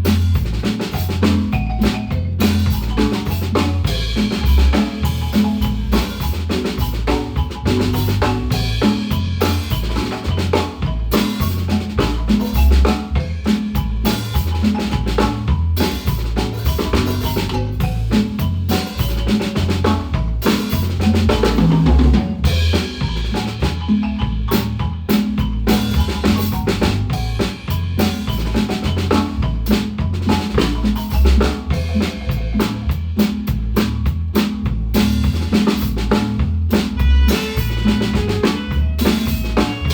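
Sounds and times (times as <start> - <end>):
drum kit beat: 0.0 - 39.9
marimba playing: 0.0 - 39.9.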